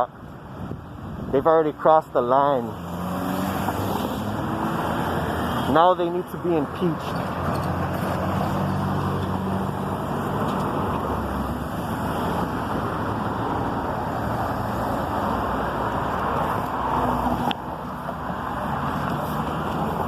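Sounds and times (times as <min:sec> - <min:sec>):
road vehicle rush: 0:00.0 - 0:20.0.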